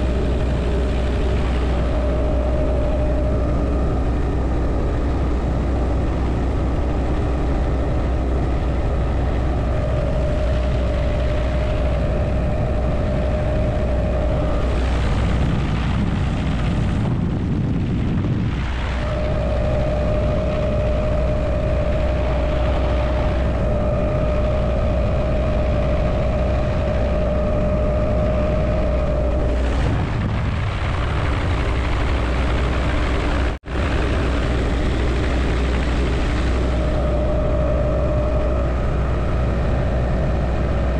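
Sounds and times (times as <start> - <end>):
helicopter rotor and engine: 0.0 - 40.9
steady whine: 0.0 - 40.9.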